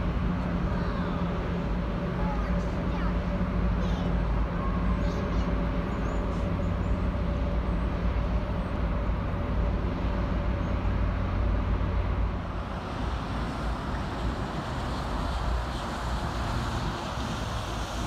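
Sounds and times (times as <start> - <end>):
ship engine rumble: 0.0 - 18.0.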